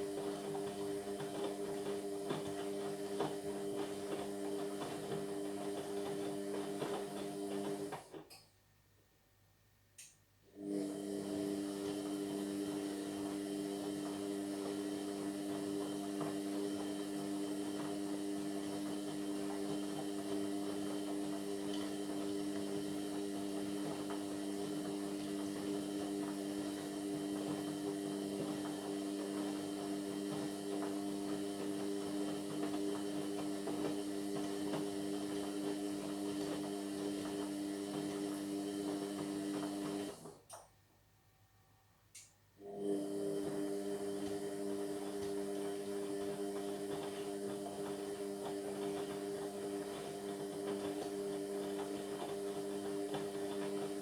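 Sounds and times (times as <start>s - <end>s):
washing machine drain pump humming: 0.0s - 8.2s, 10.5s - 40.6s, 42.6s - 54.0s.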